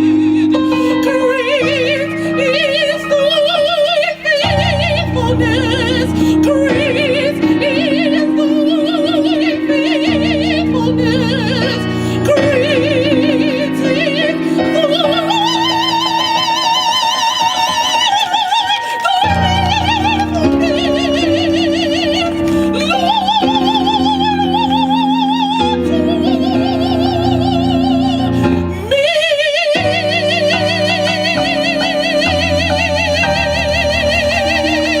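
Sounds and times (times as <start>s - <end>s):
gospel singing with vibrato: 0.0s - 35.0s
sustained instrumental chords: 0.0s - 35.0s.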